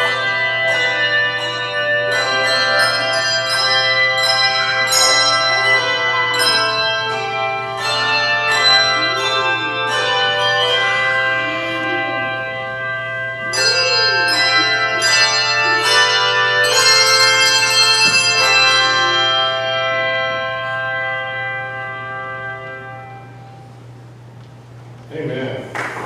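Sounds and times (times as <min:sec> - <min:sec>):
handbell choir playing: 0:00.0 - 0:24.0.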